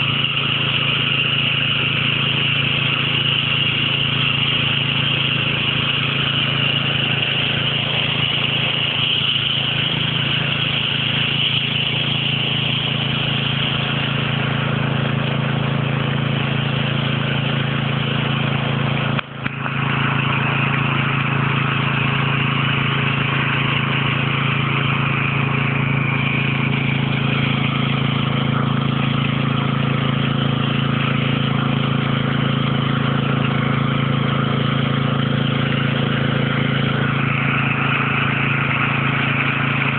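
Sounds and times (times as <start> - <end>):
water gushing from pipe: 0.0 - 39.9
water pump engine running: 0.0 - 39.9.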